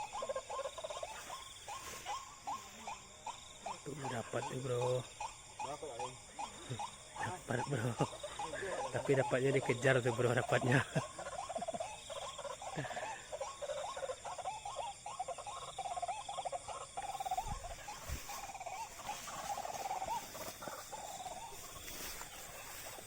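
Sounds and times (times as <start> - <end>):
waterhen croaking calls: 0.0 - 23.0.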